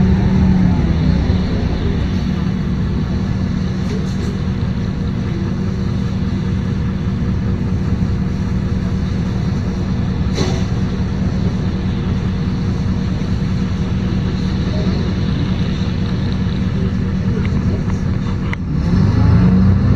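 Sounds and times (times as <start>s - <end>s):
bus engine drone from inside: 0.0s - 19.9s.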